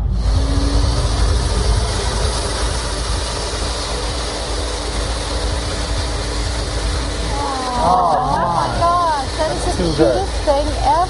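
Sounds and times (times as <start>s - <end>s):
pet blow dryer running: 0.0s - 11.0s.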